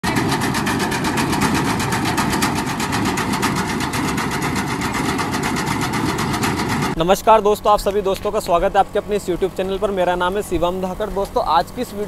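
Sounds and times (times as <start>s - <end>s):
tractor mechanical clatter: 0.0s - 12.0s.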